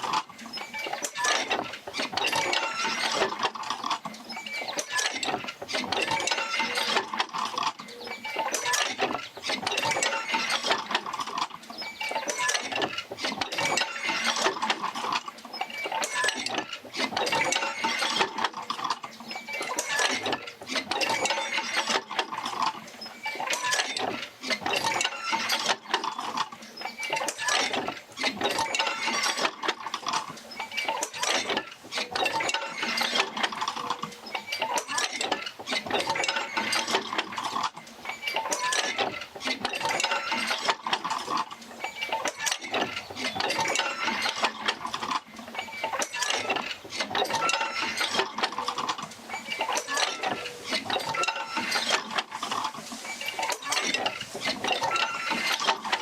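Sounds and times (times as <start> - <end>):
metal parts clicking and clanking: 0.0 - 56.0.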